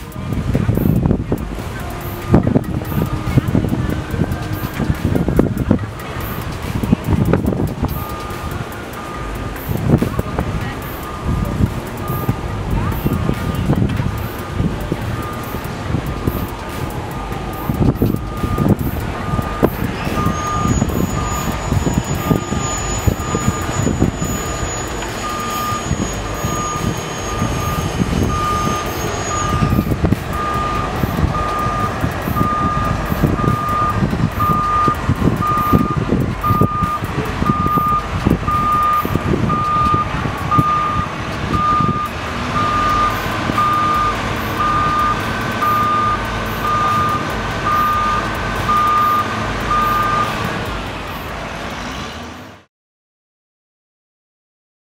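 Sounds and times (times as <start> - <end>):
reversing alarm beeping: 0.0 - 51.3
outdoor rumble: 0.0 - 52.7
wind: 0.0 - 52.7.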